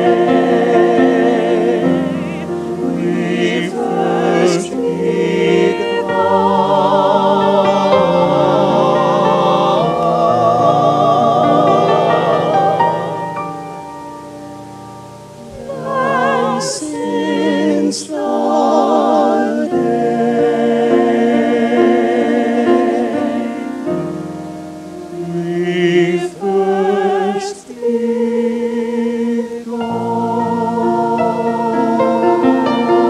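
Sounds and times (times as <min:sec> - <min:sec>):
choir singing in harmony: 0:00.0 - 0:33.0.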